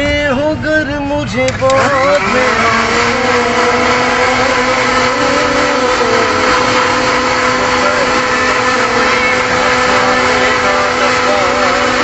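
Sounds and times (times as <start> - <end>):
small electric motor whirring: 1.6 - 12.0.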